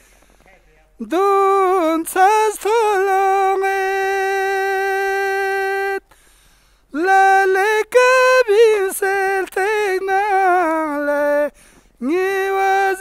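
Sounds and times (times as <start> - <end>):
person singing unaccompanied: 1.0 - 6.2, 6.9 - 13.0.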